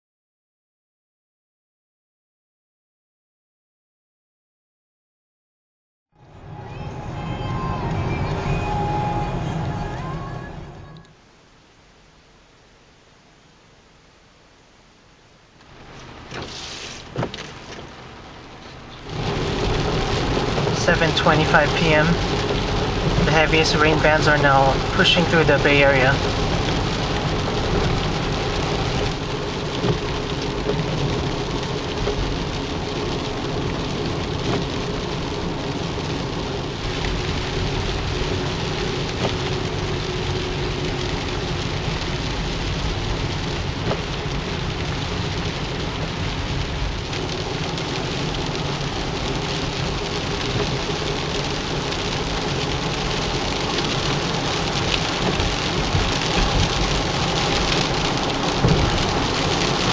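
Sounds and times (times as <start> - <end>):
heavy rain falling: 6.3 - 59.9.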